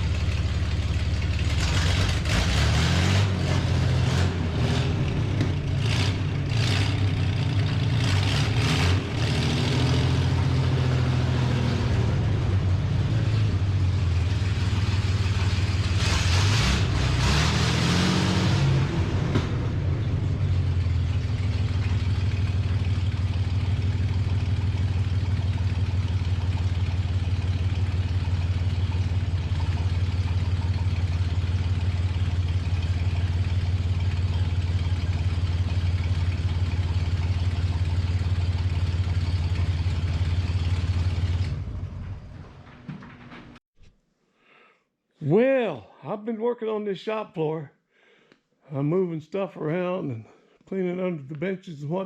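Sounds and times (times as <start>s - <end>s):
car engine revving and idling: 0.0s - 42.9s.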